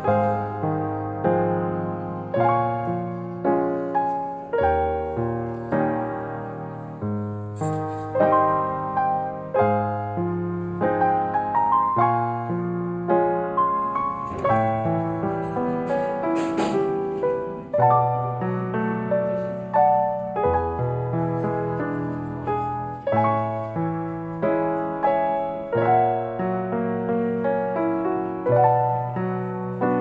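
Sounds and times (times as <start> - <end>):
slow solo piano piece: 0.0 - 30.0.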